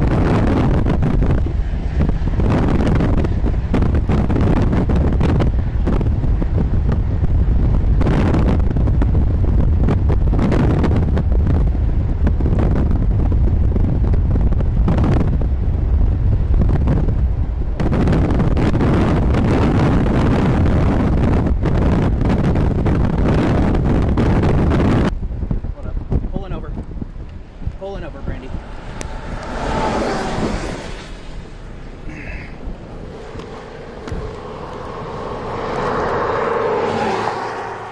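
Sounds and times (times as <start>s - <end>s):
storm wind buffeting microphone: 0.0s - 37.9s.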